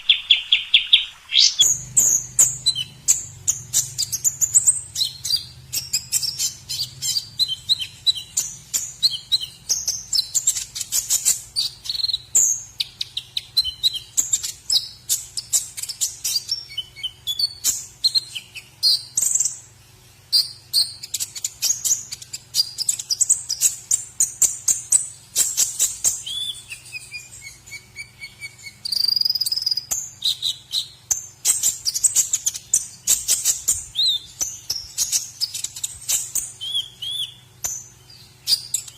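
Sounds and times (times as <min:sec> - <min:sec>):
bird singing chirps and trills: 0:00.0 - 0:19.6, 0:20.3 - 0:38.9.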